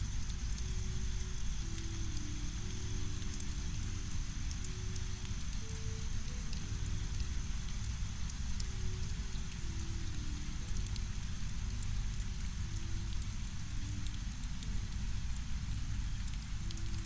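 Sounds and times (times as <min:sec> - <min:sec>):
rain: 0:00.0 - 0:17.0.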